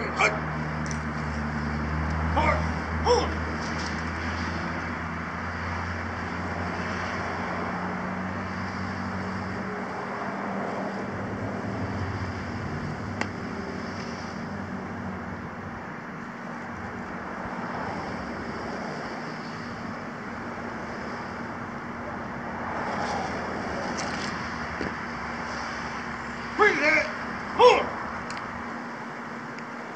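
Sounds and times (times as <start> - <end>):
outdoor background noise: 0.0 - 29.9
vehicle engine rumbling: 0.0 - 29.9.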